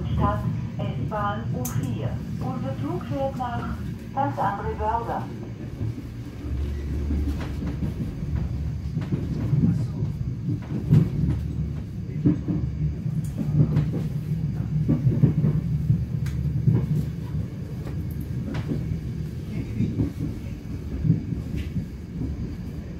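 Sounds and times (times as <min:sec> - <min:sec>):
train wheels rumbling: 0:00.0 - 0:22.9.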